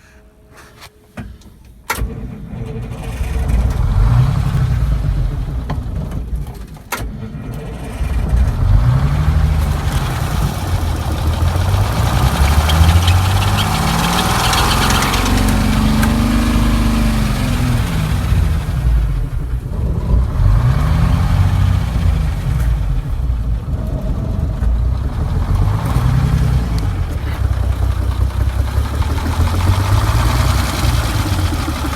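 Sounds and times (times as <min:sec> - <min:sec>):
diesel engine cranking and running: 0:01.9 - 0:31.9.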